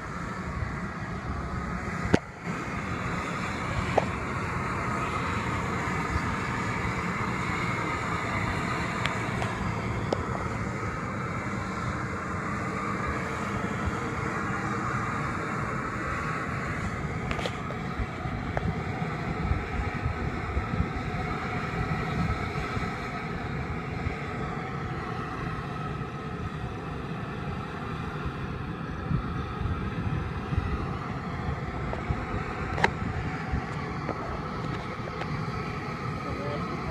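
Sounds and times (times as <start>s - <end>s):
steam vent hissing and rumbling: 0.0s - 36.9s
wind buffeting microphone: 0.0s - 36.9s.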